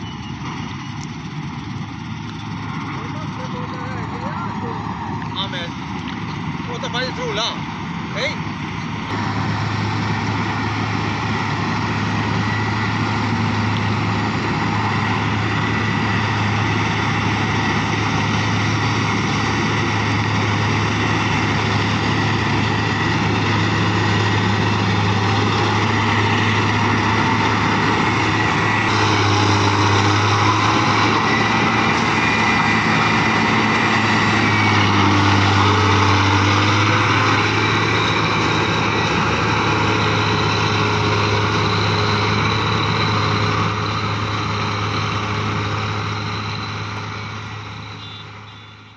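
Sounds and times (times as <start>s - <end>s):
combine harvester engine drone: 0.0s - 48.9s.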